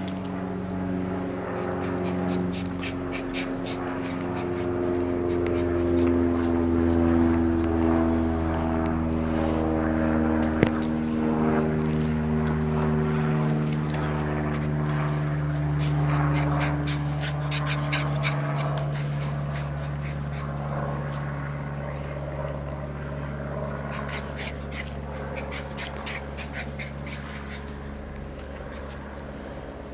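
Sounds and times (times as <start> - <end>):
dogs playing: 0.0 - 29.9
engine drone: 0.0 - 29.9.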